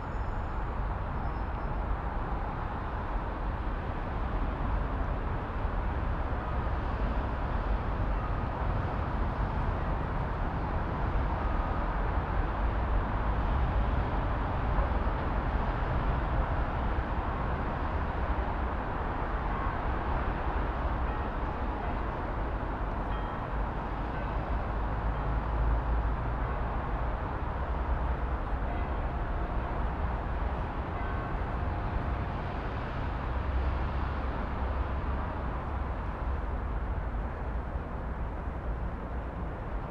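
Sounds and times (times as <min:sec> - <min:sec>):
rumble of traffic: 0:00.0 - 0:39.9.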